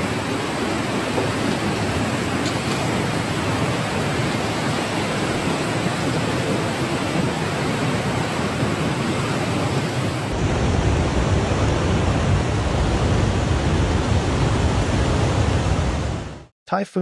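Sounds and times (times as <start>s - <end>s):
floodwater rushing: 0.0s - 16.3s.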